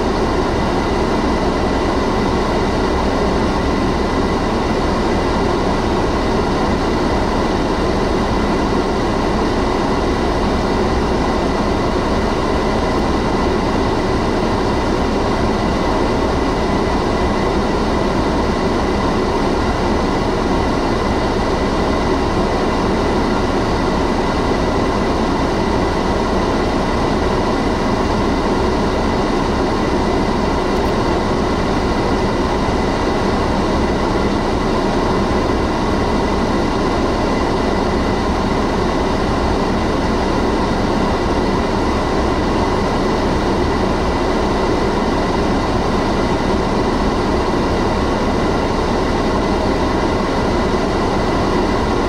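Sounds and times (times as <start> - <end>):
car wash machine running: 0.0 - 52.0.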